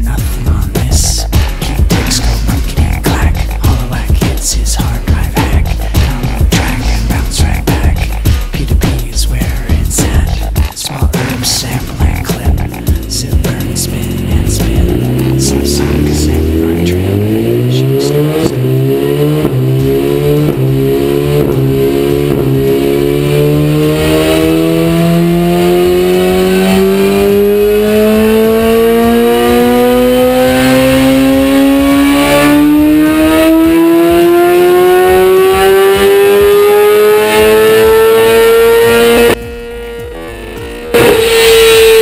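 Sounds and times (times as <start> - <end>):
motorcycle engine revving: 1.0 - 42.0.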